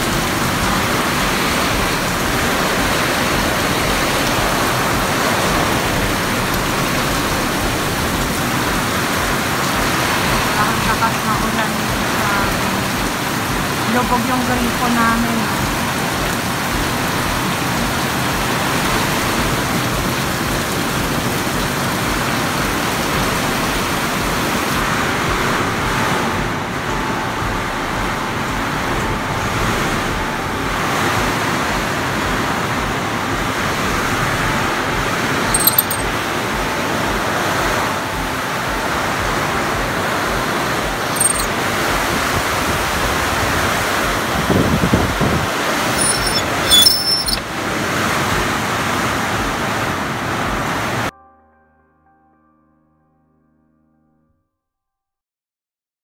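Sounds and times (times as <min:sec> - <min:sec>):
heavy rain: 0:00.0 - 0:51.1.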